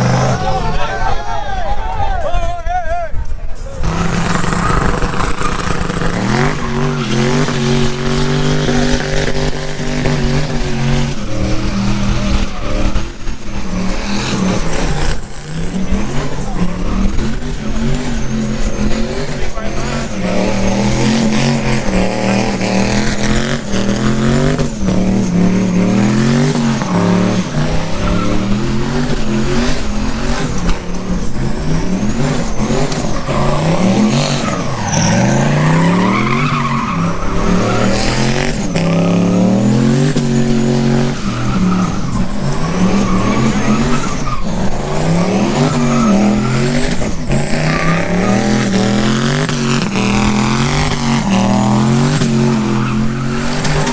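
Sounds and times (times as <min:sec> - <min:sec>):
vehicle engines revving: 0:00.0 - 0:02.6, 0:03.2 - 0:53.9.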